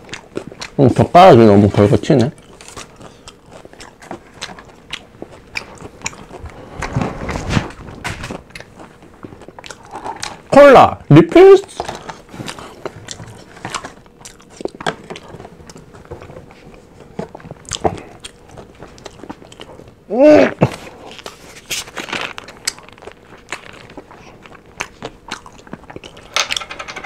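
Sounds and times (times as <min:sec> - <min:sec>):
crunching and chewing fried chicken: 0:00.0 - 0:26.2.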